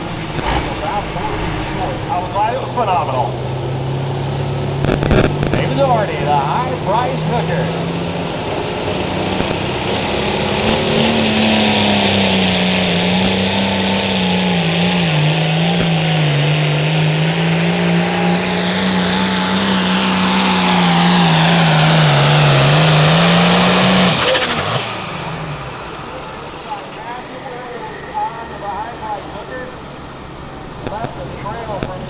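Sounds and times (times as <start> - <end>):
diesel tractor engine at full throttle: 0.0 - 32.0.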